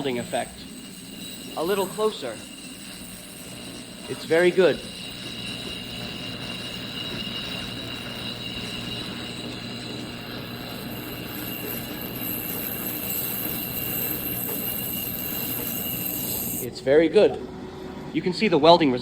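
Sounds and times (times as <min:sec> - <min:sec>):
machine hum with high whine: 0:00.0 - 0:18.2.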